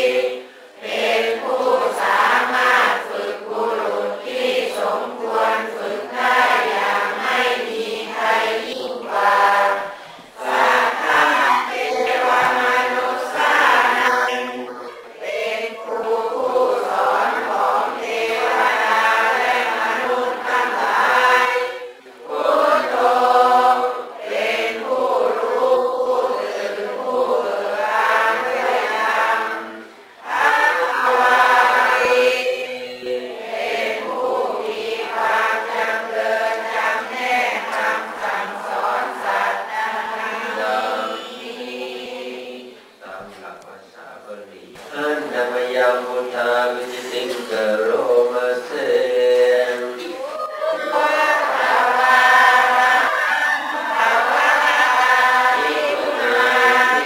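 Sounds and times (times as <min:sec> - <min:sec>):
voices chanting together: 0:00.0 - 0:57.0.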